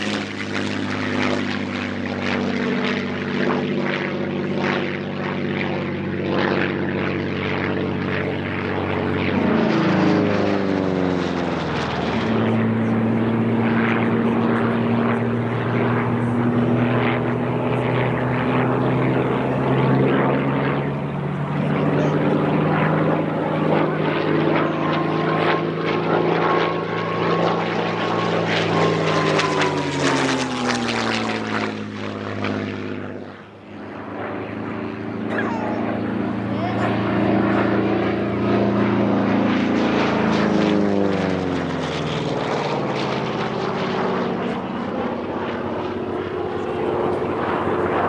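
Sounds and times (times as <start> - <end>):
propeller plane flying past: 0.0 - 48.0.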